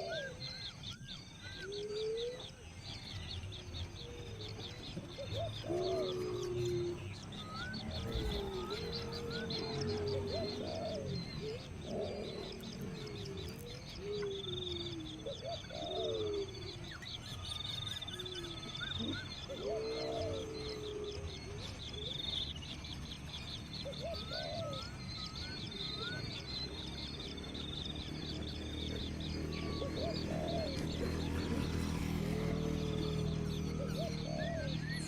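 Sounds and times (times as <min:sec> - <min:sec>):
lower arched bird calls: 0:00.0 - 0:35.0.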